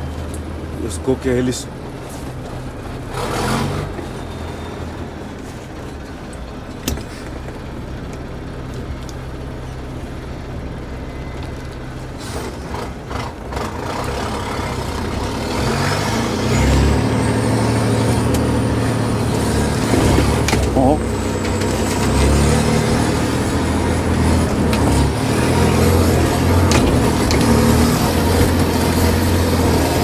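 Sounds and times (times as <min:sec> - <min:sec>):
off-road vehicle engine pulling: 0:00.0 - 0:30.0.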